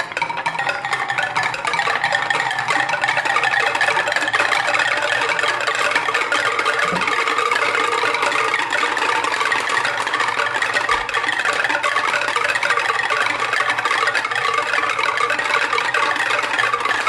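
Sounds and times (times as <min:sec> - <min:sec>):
marbles rattling along a track: 0:00.0 - 0:17.0.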